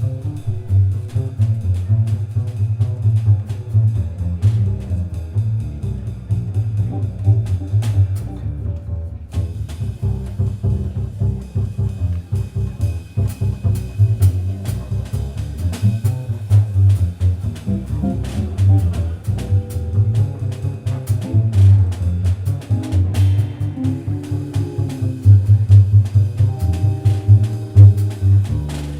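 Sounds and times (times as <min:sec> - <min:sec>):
drum and cymbal strikes: 0:00.0 - 0:08.4, 0:09.3 - 0:28.9
double bass: 0:00.0 - 0:28.9
jazz guitar: 0:00.0 - 0:28.9.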